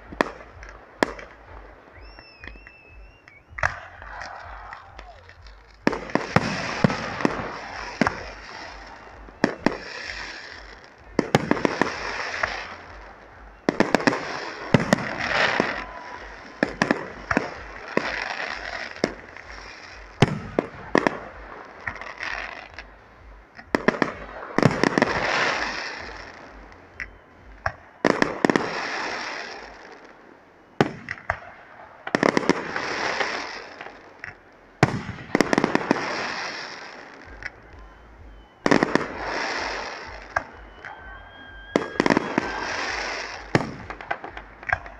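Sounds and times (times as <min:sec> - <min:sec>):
firework hiss and crackle: 0:03.6 - 0:44.9.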